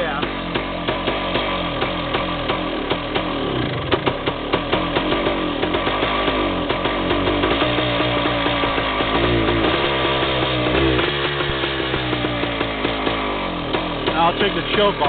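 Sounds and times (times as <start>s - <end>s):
two-stroke engine running rough: 0.0s - 15.0s.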